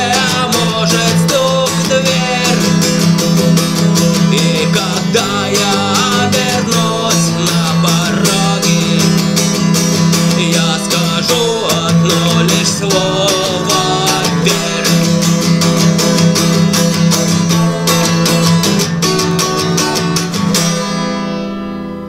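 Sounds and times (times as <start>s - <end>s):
guitar strumming: 0.0s - 22.0s.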